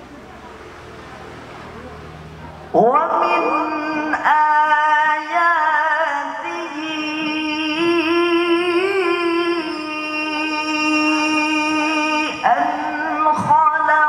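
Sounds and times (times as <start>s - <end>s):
man reciting melodically: 2.7s - 14.0s.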